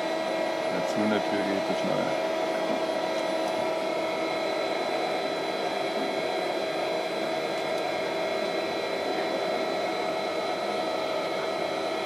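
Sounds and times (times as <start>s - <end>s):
lathe humming and whining: 0.0s - 12.0s.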